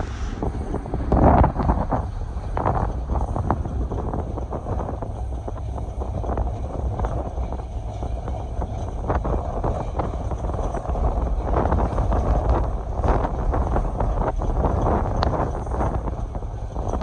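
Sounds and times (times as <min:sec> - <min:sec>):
train rumbling and clattering: 0:00.0 - 0:17.0
wind buffeting microphone: 0:00.0 - 0:17.0.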